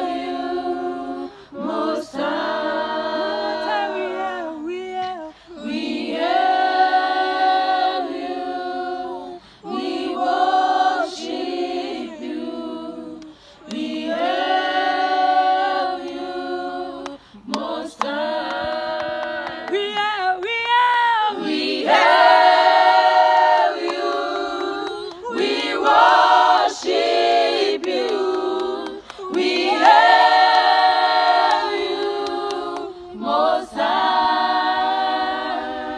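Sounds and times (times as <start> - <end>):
women singing a cappella: 0.0 - 35.9.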